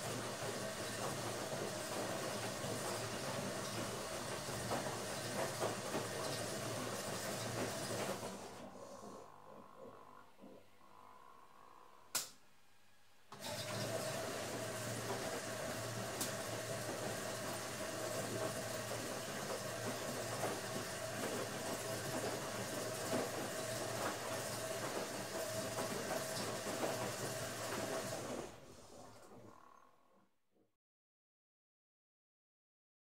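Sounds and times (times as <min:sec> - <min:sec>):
washing machine running: 0:00.0 - 0:11.8, 0:13.3 - 0:29.6.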